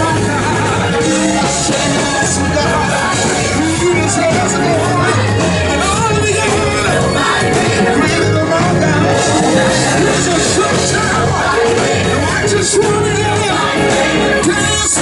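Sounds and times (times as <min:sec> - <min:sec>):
choir singing gospel: 0:00.0 - 0:15.0
keyboard accompaniment: 0:00.0 - 0:15.0.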